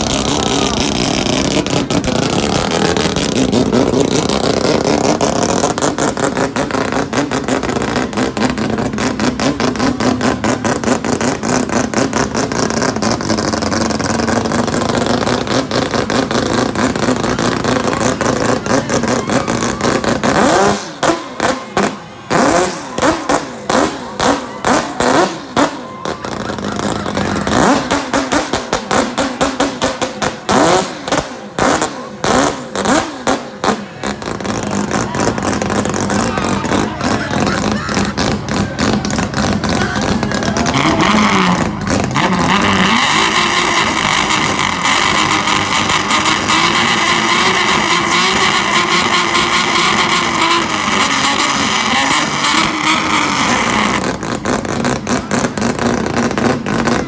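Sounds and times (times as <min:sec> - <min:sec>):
car engine revving with crackle: 0:00.0 - 0:57.0
rapid throttle blips: 0:00.0 - 0:57.0.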